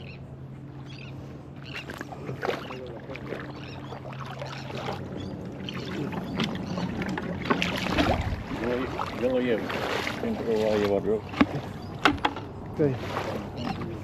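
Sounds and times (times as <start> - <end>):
steady low hum: 0.0 - 14.0
water splashing and sloshing: 0.0 - 14.0.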